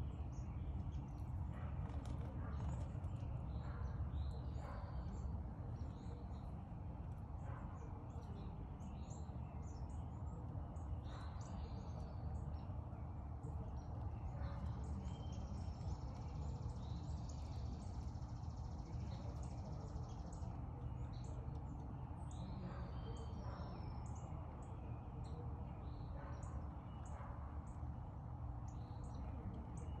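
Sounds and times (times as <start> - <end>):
low background rumble: 0.0 - 30.0
songbirds chirping: 0.0 - 30.0.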